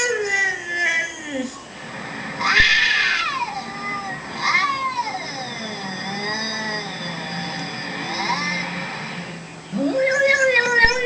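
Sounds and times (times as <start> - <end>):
dog howling cries: 0.0 - 1.6, 2.4 - 9.1, 9.7 - 11.0.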